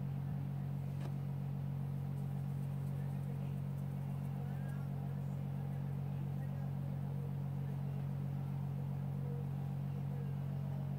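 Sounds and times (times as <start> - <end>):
low hum with fast flutter: 0.0 - 10.9.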